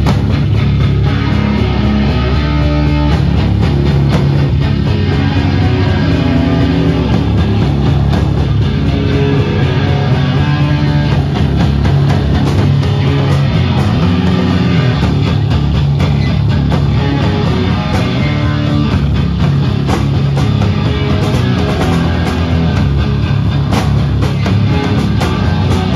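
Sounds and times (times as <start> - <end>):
drum kit: 0.0 - 25.9
electric guitars: 0.0 - 25.9.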